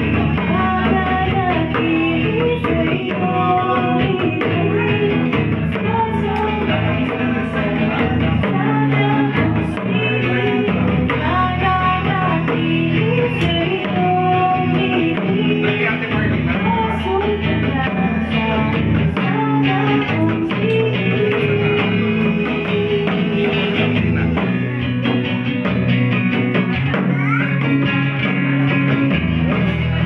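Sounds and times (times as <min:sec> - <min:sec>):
woman singing into microphone: 0:00.0 - 0:25.2
acoustic guitar: 0:00.0 - 0:30.0
light percussion on small drums: 0:00.0 - 0:30.0.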